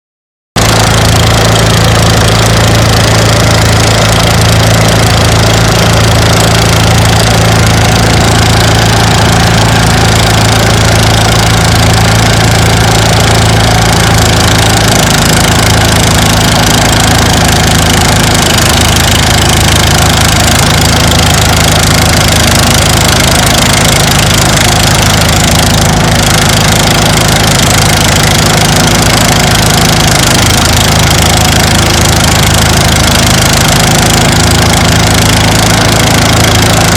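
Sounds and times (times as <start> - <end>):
threshing machine engine running: 0.6 - 36.9.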